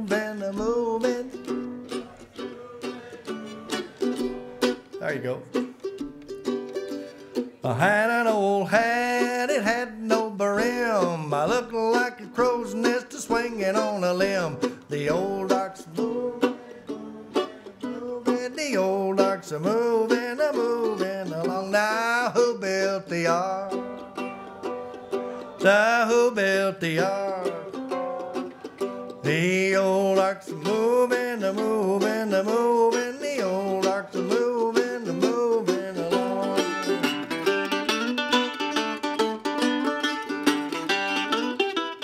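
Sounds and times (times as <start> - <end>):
mandolin picked notes: 0.0 - 42.0.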